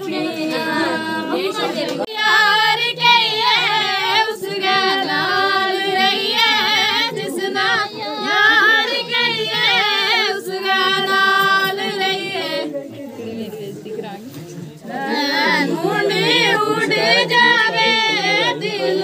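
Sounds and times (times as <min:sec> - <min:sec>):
women singing unaccompanied: 0:00.0 - 0:13.6, 0:14.9 - 0:19.0.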